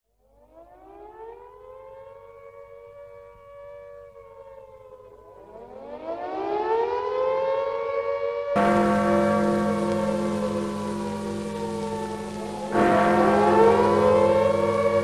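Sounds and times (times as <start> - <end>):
air-raid siren wailing: 0.8 - 15.0.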